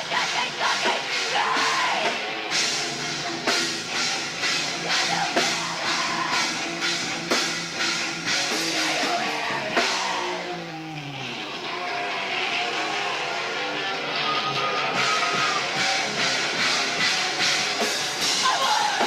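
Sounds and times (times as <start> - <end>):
drum kit beat: 0.0 - 11.6, 12.3 - 19.0
electric guitar: 0.0 - 19.0.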